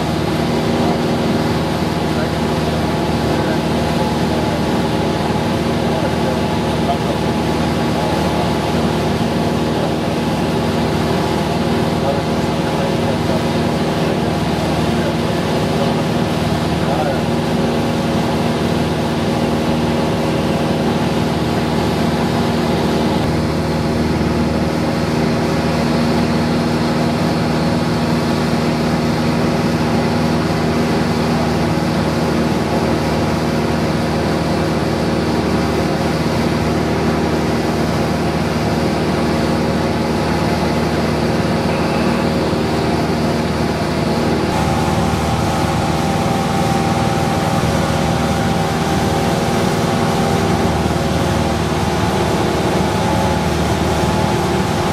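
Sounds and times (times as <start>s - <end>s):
aircraft engine and propeller drone: 0.0s - 54.9s.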